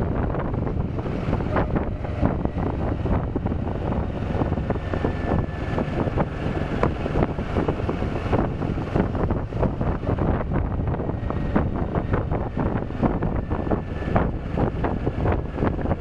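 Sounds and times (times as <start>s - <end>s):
motorcycle engine and road rumble: 0.0s - 16.0s
wind buffeting microphone: 0.0s - 16.0s.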